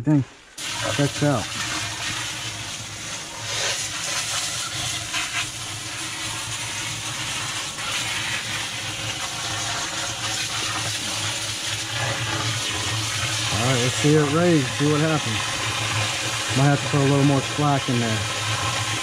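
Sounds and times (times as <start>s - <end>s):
water pouring into a basin: 0.5s - 19.0s.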